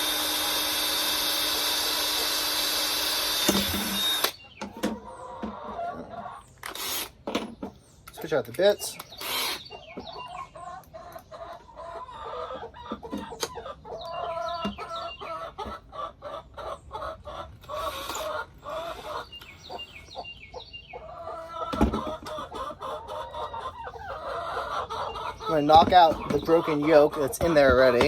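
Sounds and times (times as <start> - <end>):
chickens clucking: 4.0 - 28.0.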